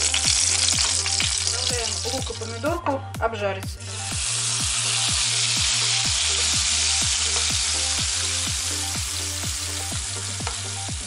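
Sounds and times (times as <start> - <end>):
vegetables sizzling in oil: 0.0 - 2.5, 3.9 - 11.0.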